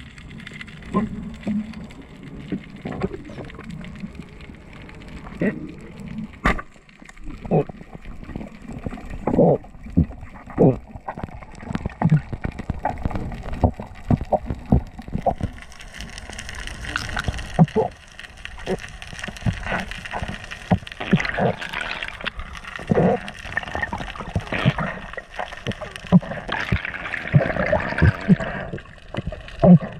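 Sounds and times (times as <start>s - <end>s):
rushing water and bubbles: 0.0s - 29.9s.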